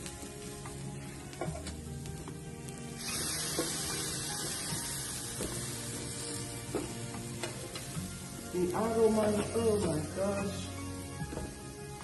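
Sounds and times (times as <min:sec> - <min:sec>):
shrimp sizzling on a grill pan: 0:00.0 - 0:12.0.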